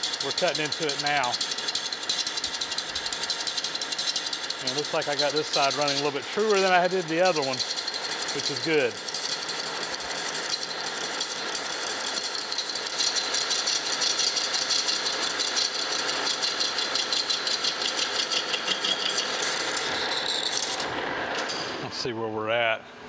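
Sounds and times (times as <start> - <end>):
metal lathe cutting hiss: 0.0 - 21.7.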